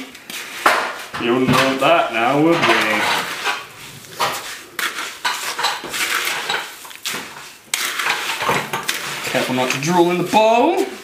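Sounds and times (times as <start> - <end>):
wooden spoon scraping a bowl: 1.3 - 11.0.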